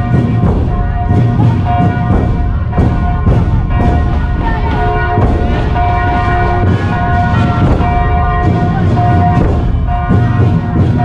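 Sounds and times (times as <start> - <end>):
church bells ringing: 0.0 - 11.0
heavy drum beats: 0.0 - 11.0.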